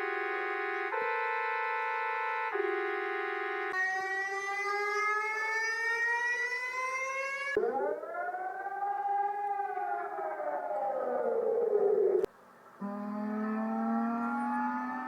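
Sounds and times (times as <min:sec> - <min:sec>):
siren winding up and down: 0:00.5 - 0:15.0.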